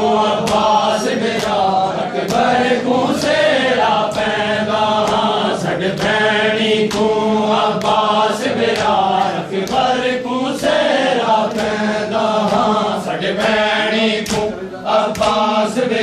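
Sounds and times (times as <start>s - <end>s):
hands slapping chests: 0.0s - 15.6s
men chanting in rhythm: 0.0s - 16.0s.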